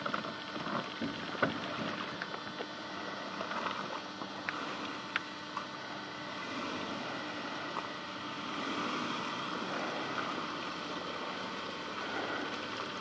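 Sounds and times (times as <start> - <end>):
car engine and tyres in mud: 0.0 - 13.0.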